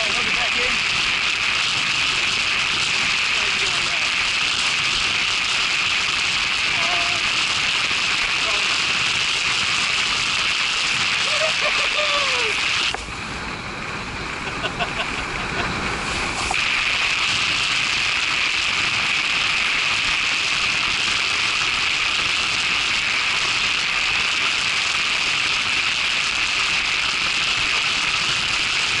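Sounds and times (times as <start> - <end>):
water spraying past a board: 0.0 - 29.0.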